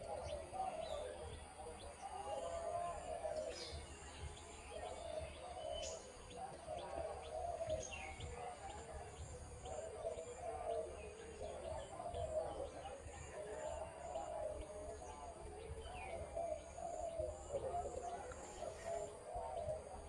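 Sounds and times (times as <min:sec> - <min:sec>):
dove cooing: 0:00.0 - 0:20.0
small birds chirping: 0:00.0 - 0:20.0.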